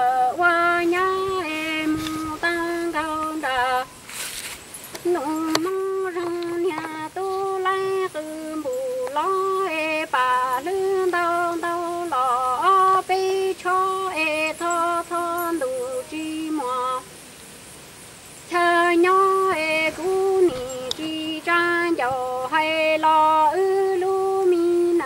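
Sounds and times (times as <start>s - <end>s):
woman singing: 0.0s - 4.0s, 5.0s - 17.1s, 18.5s - 25.0s.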